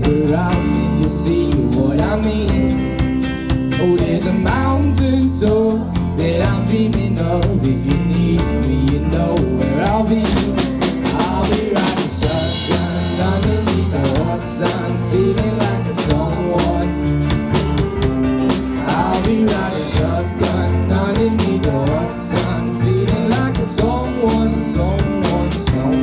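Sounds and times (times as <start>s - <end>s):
live pop band playing: 0.0s - 26.0s.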